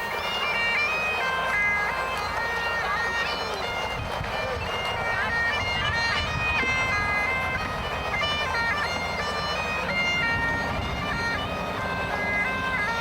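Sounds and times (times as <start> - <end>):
bagpipe melody: 0.0 - 13.0.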